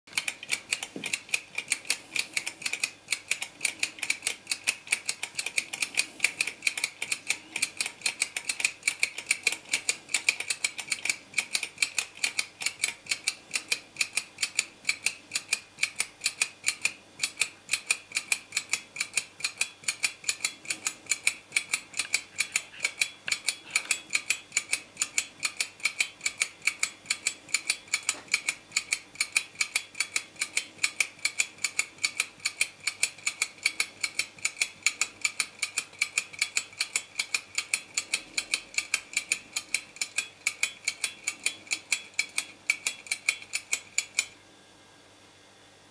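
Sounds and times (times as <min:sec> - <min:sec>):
clockwork toys clicking: 0:00.1 - 0:44.4.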